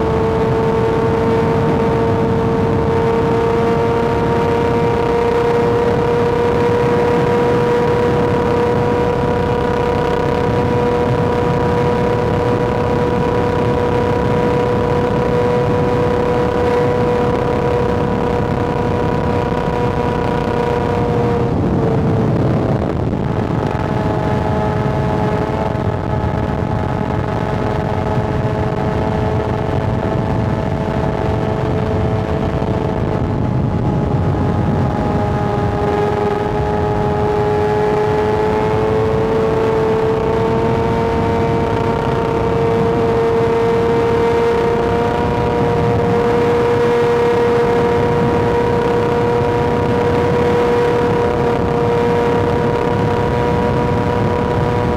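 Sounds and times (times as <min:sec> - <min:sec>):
dense rush of noise: 0:00.0 - 0:54.9
motorcycle engine at high revs: 0:00.0 - 0:54.9.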